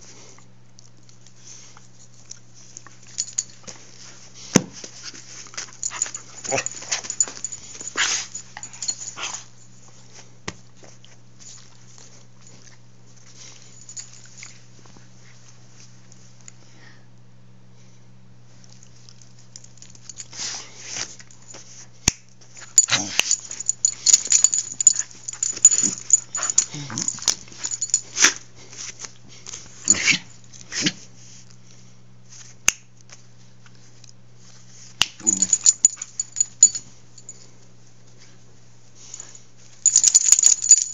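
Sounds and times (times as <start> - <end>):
dog play-fighting on carpet: 0.0 - 16.7, 18.6 - 40.9
faint steady hum: 0.0 - 40.9.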